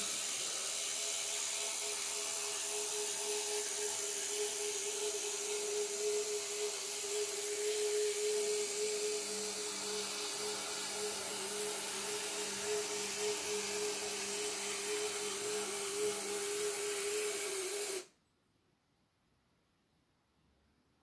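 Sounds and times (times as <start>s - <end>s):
model train running on track: 0.0s - 18.0s
small electric motors whining: 0.0s - 18.1s
steady hiss: 0.0s - 18.1s.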